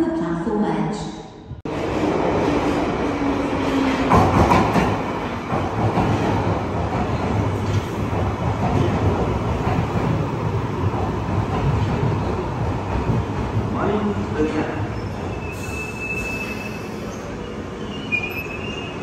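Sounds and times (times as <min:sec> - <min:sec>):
train wheels rumbling on rail: 0:01.7 - 0:19.0
train clattering: 0:02.0 - 0:19.0.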